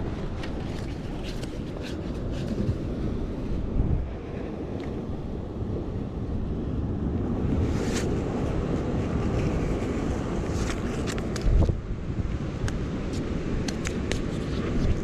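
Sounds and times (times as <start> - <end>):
ocean surf against rocks: 0.0 - 15.0
wind rumbling on microphone: 0.0 - 15.0.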